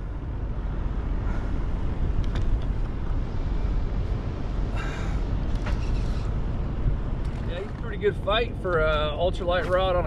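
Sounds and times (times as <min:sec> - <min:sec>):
harbour water ambience: 0:00.0 - 0:10.0
low rumble of wind: 0:00.0 - 0:10.0.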